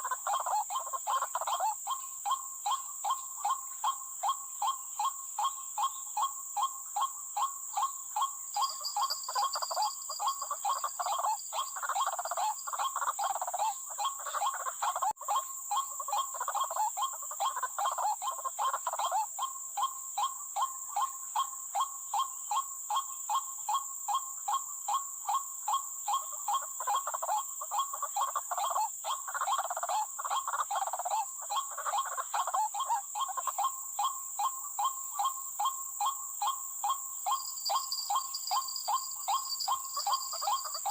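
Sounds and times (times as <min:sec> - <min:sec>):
high-pitched insect-like whine: 0:00.0 - 0:24.4, 0:32.0 - 0:40.9
bird croaking call: 0:00.0 - 0:40.9.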